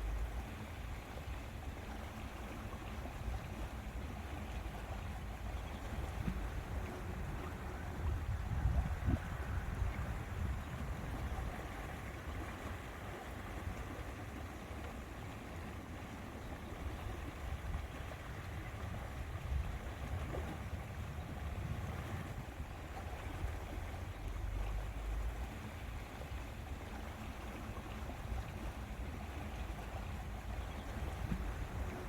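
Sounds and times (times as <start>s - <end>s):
small waves lapping: 0.0s - 32.0s
wind: 0.0s - 32.0s.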